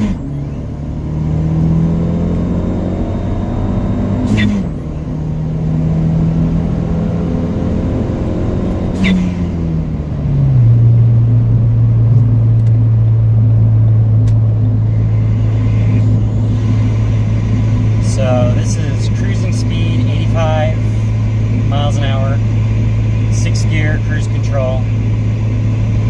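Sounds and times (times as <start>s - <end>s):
car engine drone from inside cabin: 0.0s - 26.0s.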